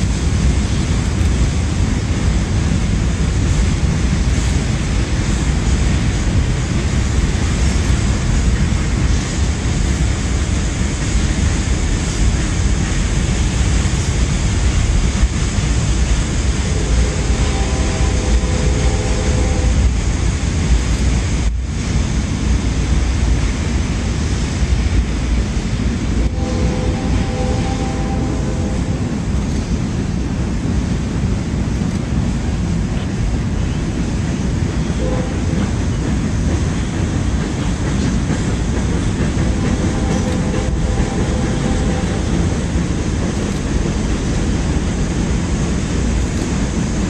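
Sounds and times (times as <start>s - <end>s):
train wheels rumbling on bridge: 0.0s - 47.0s.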